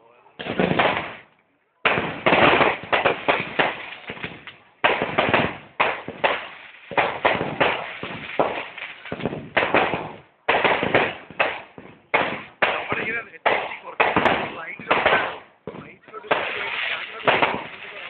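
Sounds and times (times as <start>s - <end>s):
fireworks bangs and pops: 0.4s - 18.0s.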